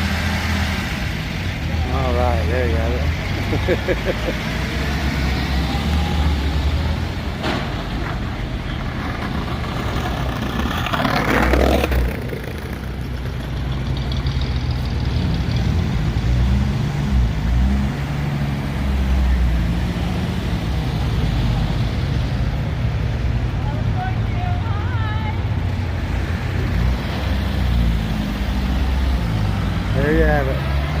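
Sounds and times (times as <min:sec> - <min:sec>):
car engines rumbling: 0:00.0 - 0:31.0.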